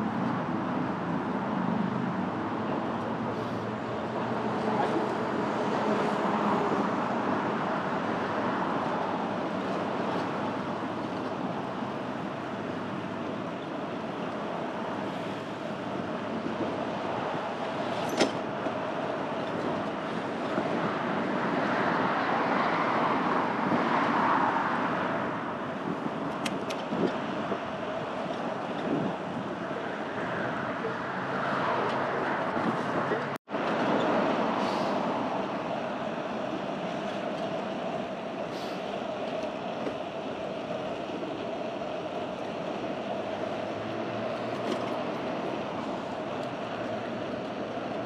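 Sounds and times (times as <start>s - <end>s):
road traffic rushing: 0.0s - 48.0s
vehicles passing: 0.0s - 48.0s.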